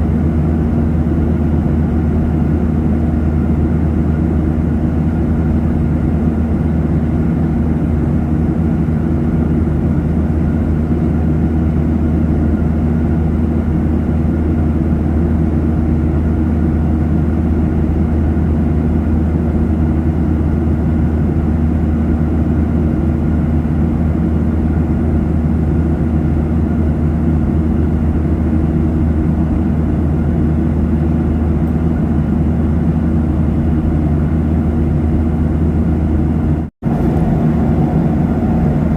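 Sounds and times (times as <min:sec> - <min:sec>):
jet airliner cabin drone: 0:00.0 - 0:38.9.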